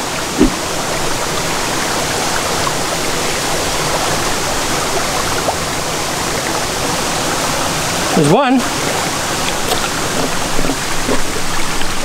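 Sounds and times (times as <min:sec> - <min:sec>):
water running over rocks: 0:00.0 - 0:12.0.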